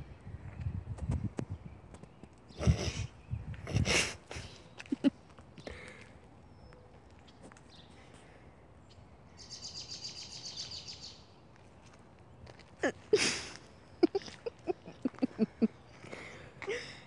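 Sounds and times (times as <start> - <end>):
faint outdoor background: 0.0 - 17.0.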